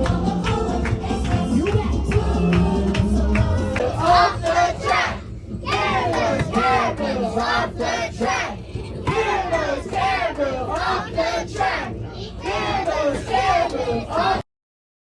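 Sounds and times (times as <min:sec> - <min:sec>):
group singing and shouting in chorus: 0:00.0 - 0:14.4.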